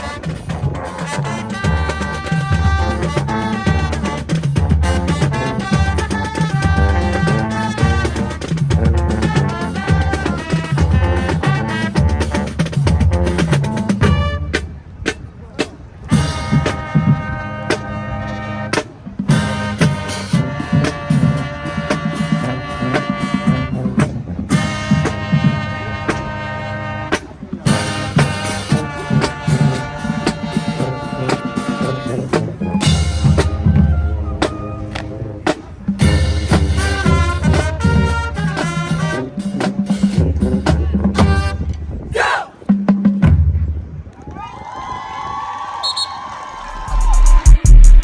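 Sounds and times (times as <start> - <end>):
brass section chords: 0.0 - 14.8, 16.0 - 41.7, 46.6 - 48.0
deep tuba line: 0.0 - 15.0, 16.0 - 41.8, 46.7 - 48.0
drumline beating: 0.0 - 41.7, 42.4 - 43.8, 46.6 - 48.0.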